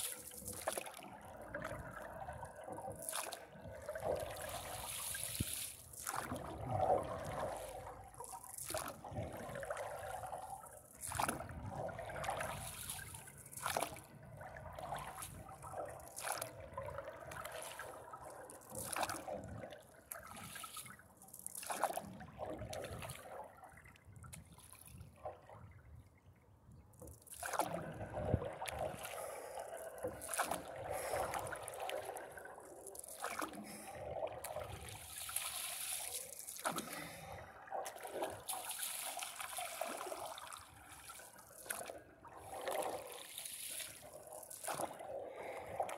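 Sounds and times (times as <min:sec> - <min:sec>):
paddle splashing in water: 0:00.0 - 0:16.6, 0:17.2 - 0:18.0, 0:20.1 - 0:23.4, 0:27.1 - 0:45.9
water lapping along a hull: 0:00.0 - 0:45.9.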